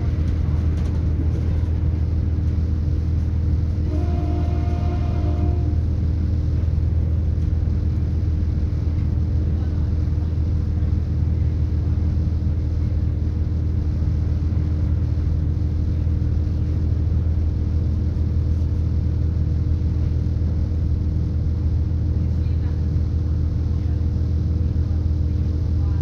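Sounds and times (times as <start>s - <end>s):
constant hum: 0.0s - 26.0s
train engine and wheels rumbling: 0.0s - 26.0s.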